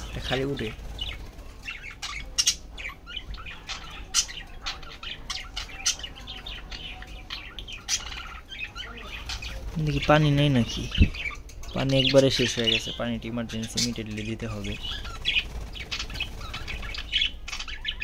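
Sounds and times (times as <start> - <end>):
wings fluttering: 0.0 - 6.0, 8.7 - 12.9, 13.8 - 18.0
budgerigars chirping: 0.0 - 18.0.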